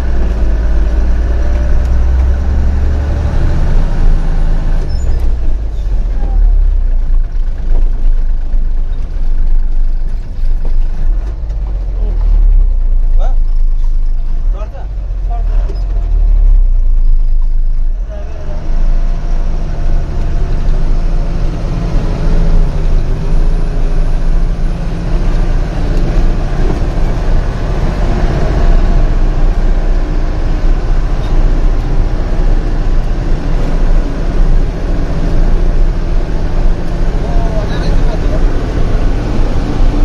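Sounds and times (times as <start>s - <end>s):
heavy truck engine droning: 0.0s - 40.0s.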